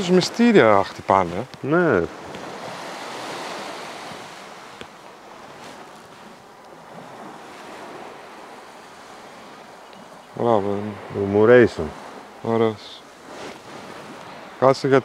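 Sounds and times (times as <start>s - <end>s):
sea waves washing up a beach: 0.0s - 15.0s.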